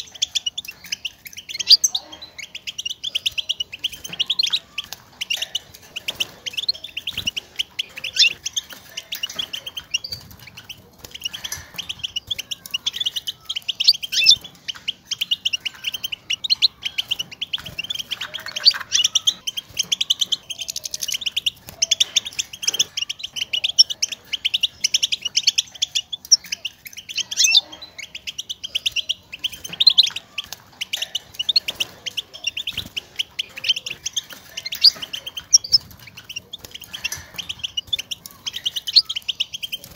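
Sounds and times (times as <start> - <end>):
goldfinch twittering: 0.0 - 39.9.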